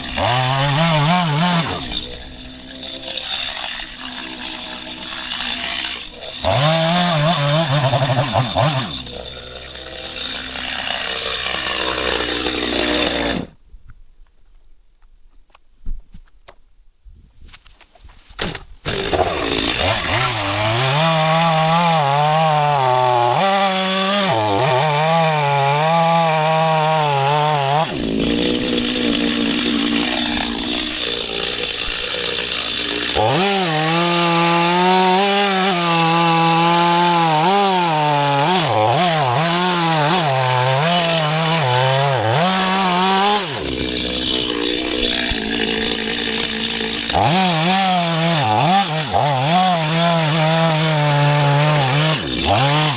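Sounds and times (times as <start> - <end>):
chainsaw cutting wood: 0.0 - 13.6, 18.4 - 52.9.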